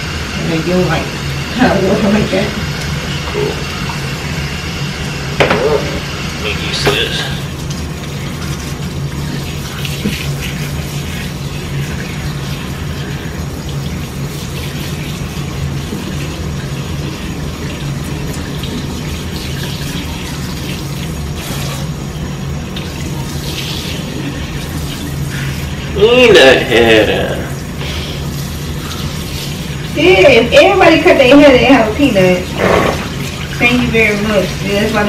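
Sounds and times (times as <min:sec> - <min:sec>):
sink sprayer water splashing: 0:00.0 - 0:35.0.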